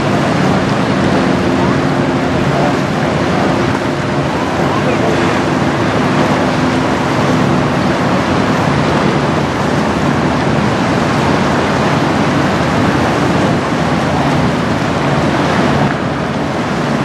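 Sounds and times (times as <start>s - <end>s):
choppy water: 0.0s - 17.0s
faint low engine drone: 0.0s - 17.0s
wind on microphone: 0.0s - 17.0s.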